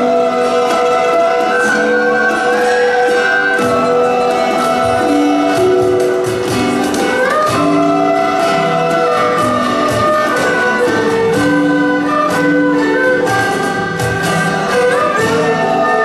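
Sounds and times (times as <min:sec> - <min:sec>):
erhu sliding melody: 0:00.0 - 0:16.0
plucked string accompaniment: 0:00.0 - 0:16.0.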